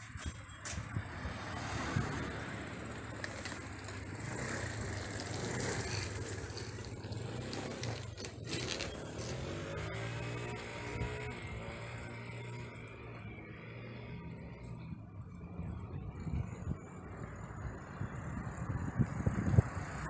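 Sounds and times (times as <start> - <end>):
cars passing on road: 0.0 - 20.0.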